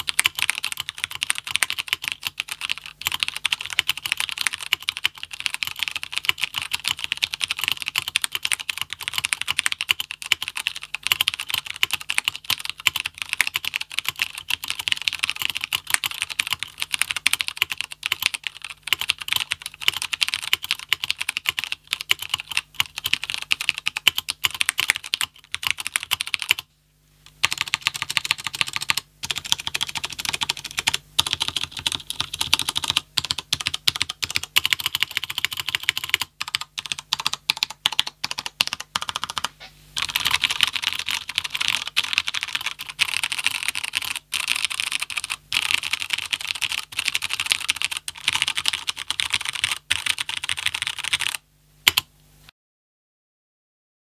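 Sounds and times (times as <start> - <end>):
mechanical keyboard typing: 0.0 - 26.7, 27.3 - 52.1.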